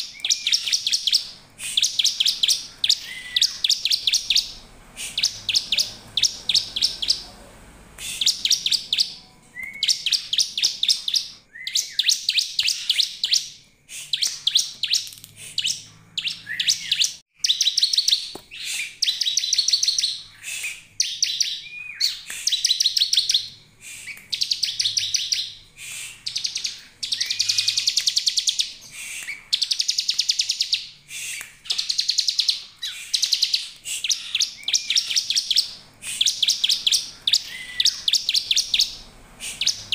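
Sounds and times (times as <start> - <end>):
bird trilled chattering calls: 0.0 - 7.3, 8.0 - 39.9.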